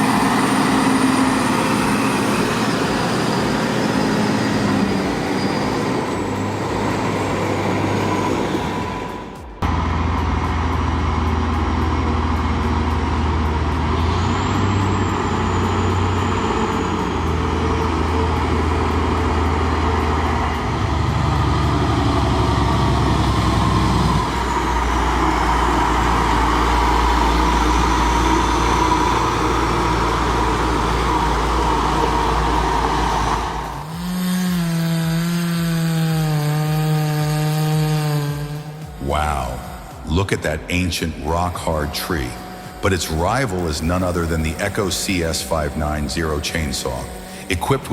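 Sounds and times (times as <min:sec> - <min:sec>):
heavy truck engine revving: 0:00.0 - 0:47.9.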